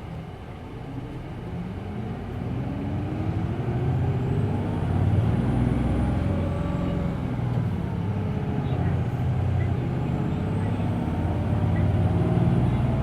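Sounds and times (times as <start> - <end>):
bus diesel engine accelerating: 0.0 - 13.0.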